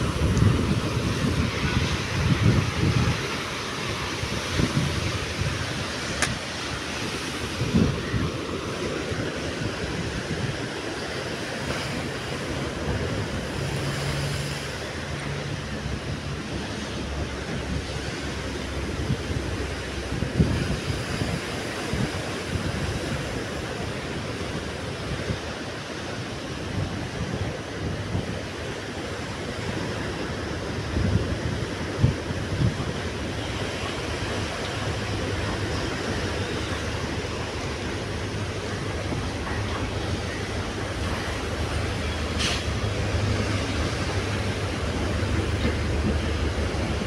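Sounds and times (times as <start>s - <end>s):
surf breaking over rocks: 0.0s - 47.0s
wind buffeting microphone: 0.0s - 47.0s.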